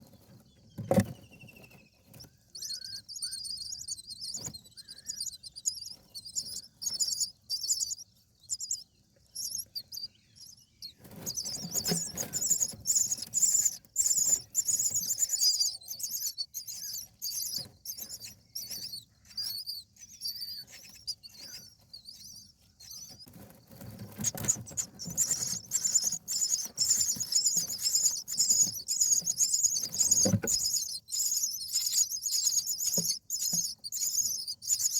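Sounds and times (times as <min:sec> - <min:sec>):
scratching and rustling in nest: 0:00.0 - 0:34.9
nestlings begging calls: 0:00.1 - 0:34.9.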